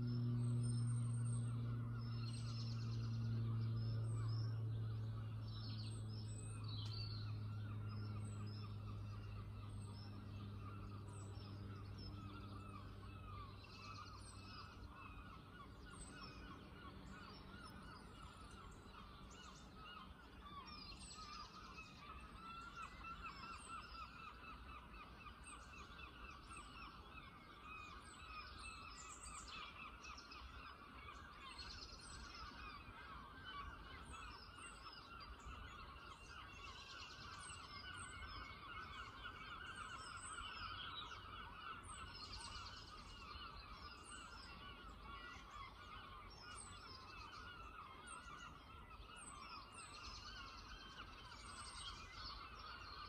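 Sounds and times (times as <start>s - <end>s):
chorus of birds chattering: 0.0s - 53.0s
high calls of small birds: 0.0s - 53.0s.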